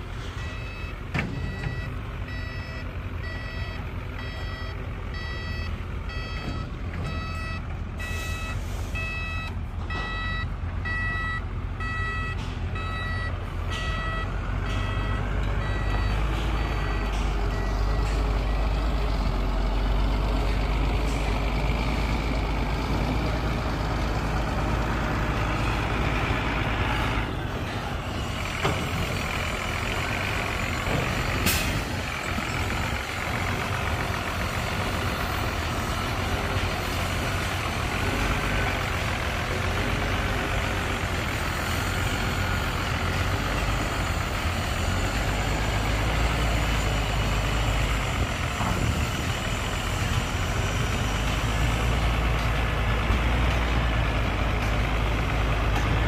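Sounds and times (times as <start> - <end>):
truck back-up alarm beeping: 0.0 - 53.1
diesel engine running: 0.0 - 56.0.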